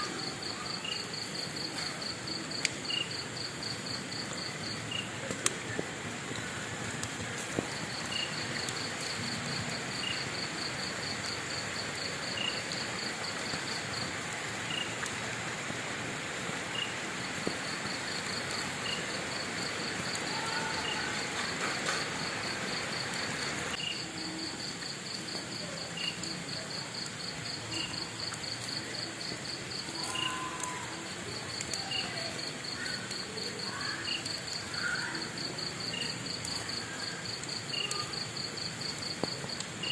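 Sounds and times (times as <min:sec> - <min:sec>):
insect chirping: 0:00.0 - 0:05.2, 0:07.6 - 0:15.0, 0:16.2 - 0:39.9
steady hiss: 0:00.0 - 0:39.9.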